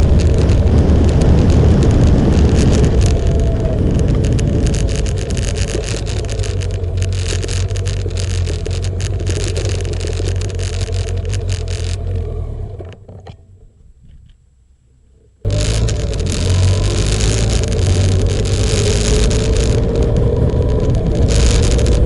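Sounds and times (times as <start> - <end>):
wind on microphone: 0.0 - 12.0, 15.4 - 22.0
motorcycle engine running: 0.0 - 13.0, 15.4 - 22.0.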